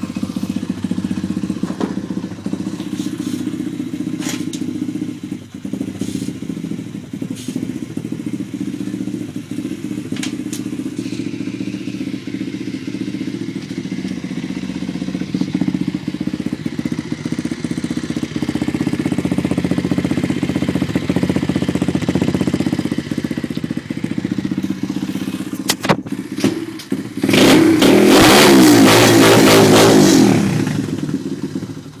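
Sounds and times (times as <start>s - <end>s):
dirt bike engine idling and revving: 0.0s - 32.0s.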